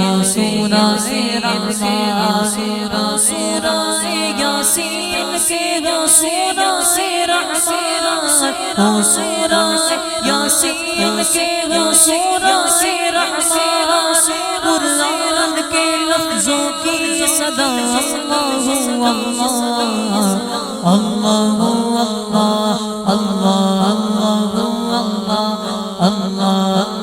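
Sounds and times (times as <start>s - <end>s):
layered voices humming and chanting: 0.0s - 27.0s.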